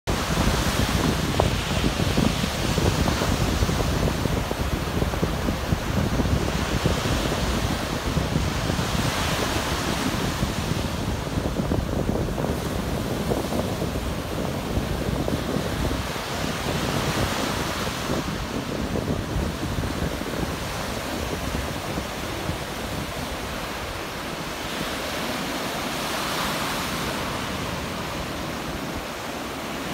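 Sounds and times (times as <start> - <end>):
waves breaking on sandy beach: 0.1 - 29.9
wind on microphone: 0.1 - 29.9.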